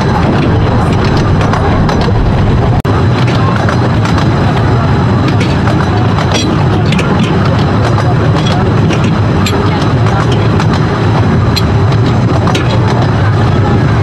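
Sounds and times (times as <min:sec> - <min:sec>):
train rumbling and rattling: 0:00.0 - 0:14.0
wheels clattering on track: 0:00.0 - 0:14.0
wind on microphone: 0:00.0 - 0:14.0.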